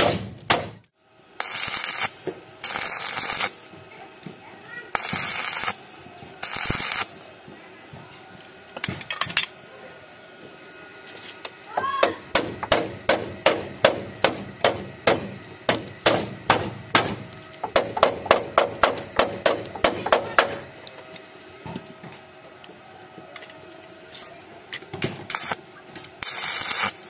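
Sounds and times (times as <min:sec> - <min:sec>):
arc welding crackle: 0:00.0 - 0:07.5, 0:11.0 - 0:27.0.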